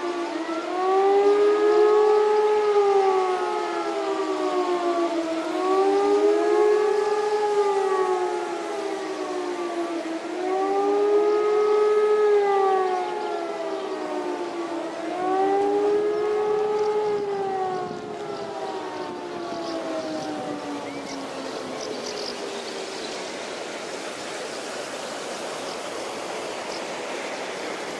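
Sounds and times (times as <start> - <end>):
siren wailing: 0.0 - 24.2
second overlapping siren wail: 0.0 - 27.9.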